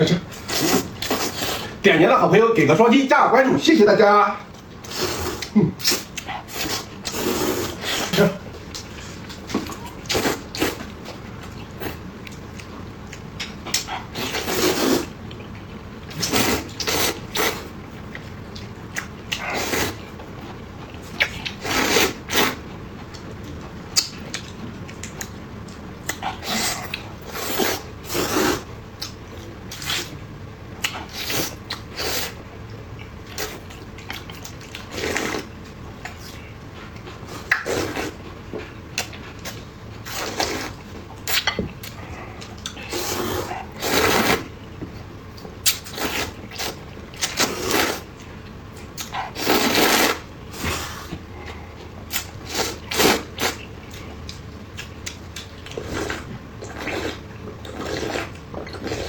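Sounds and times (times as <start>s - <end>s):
wet chewing and slurping: 4.6s - 30.2s, 30.8s - 59.0s.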